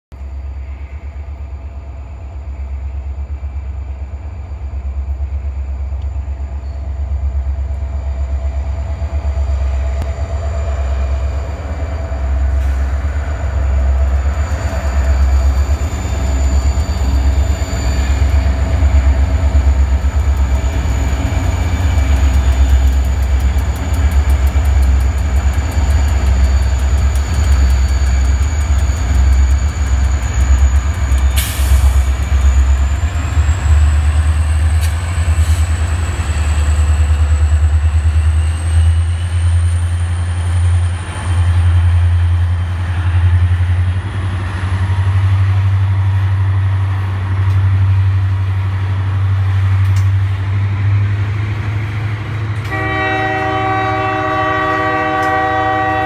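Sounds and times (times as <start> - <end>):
diesel locomotive engine rumble: 0.1 - 56.0.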